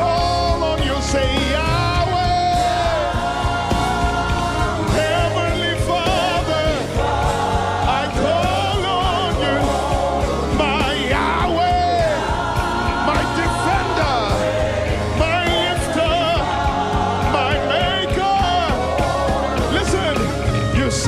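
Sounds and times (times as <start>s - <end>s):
bass: 0.0s - 21.0s
drums: 0.0s - 21.0s
keyboards: 0.0s - 21.0s
people singing: 0.0s - 21.0s.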